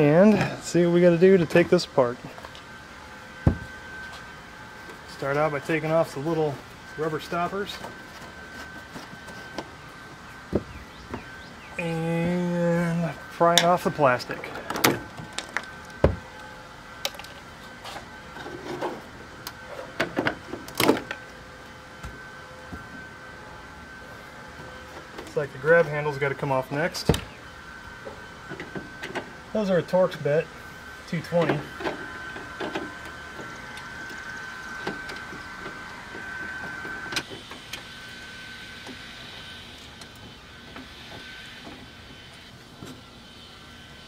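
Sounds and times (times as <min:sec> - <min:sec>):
steady high whine: 0:00.0 - 0:44.0.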